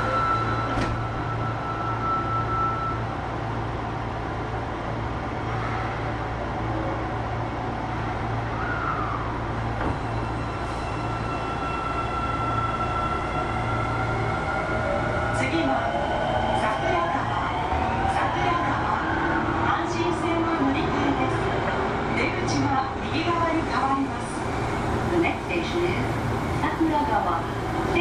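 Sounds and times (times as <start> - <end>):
subway train low hum: 0.0 - 28.0.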